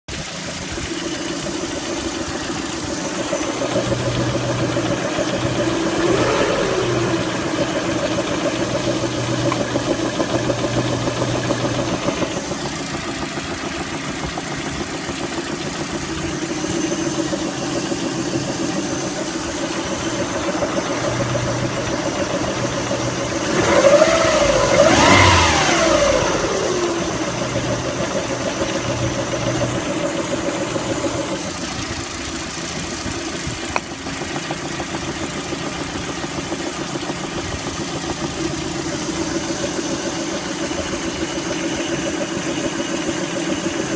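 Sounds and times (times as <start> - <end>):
car engine idling and revving: 0.1 - 43.9.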